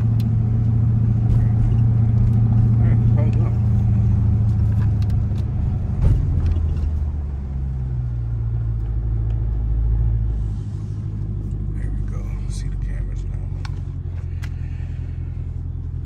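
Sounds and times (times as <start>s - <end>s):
low exhaust drone: 0.0s - 16.0s.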